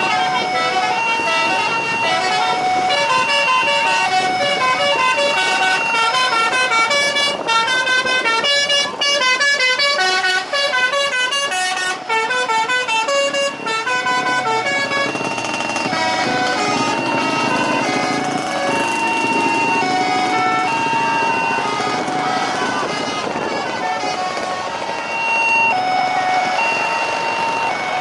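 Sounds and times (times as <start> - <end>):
reedy horn-like melody: 0.0 - 28.0.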